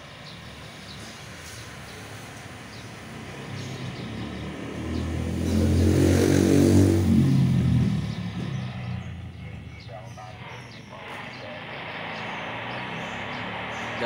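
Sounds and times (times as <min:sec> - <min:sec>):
vehicle engine passing by: 0:00.1 - 0:14.0.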